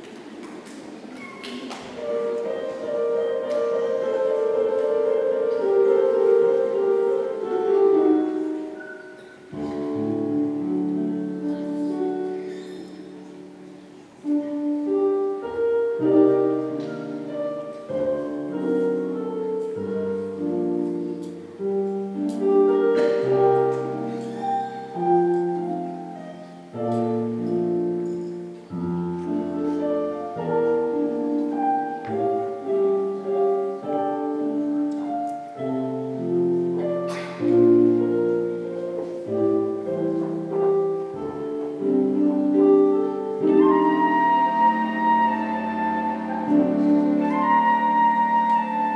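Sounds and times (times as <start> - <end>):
higher melody line: 2.0 - 12.3, 14.2 - 48.9
orchestra playing slow chords: 2.0 - 48.9.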